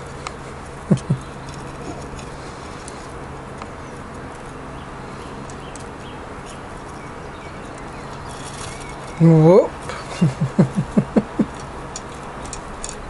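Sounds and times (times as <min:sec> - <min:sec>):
small birds chirping: 0:00.0 - 0:12.5
steady background hiss: 0:00.0 - 0:13.0.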